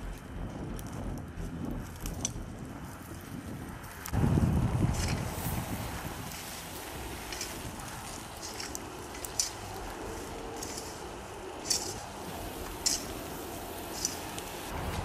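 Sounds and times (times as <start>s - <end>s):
fire crackling pops: 0.0s - 15.0s
wildfire rushing: 0.0s - 15.0s.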